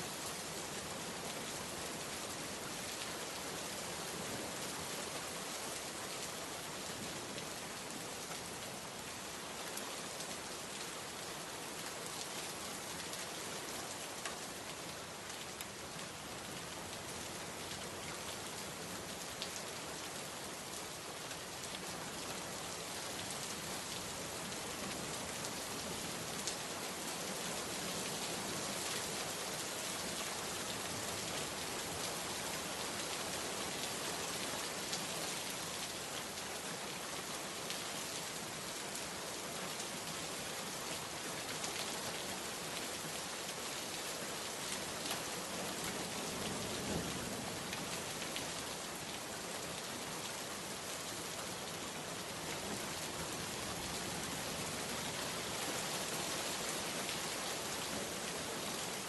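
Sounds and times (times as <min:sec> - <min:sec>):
heavy rain on hard surfaces: 0:00.0 - 0:59.0.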